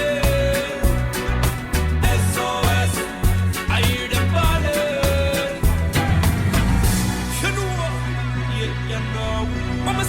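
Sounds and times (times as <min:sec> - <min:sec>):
hip-hop track with deep bass: 0:00.0 - 0:10.0.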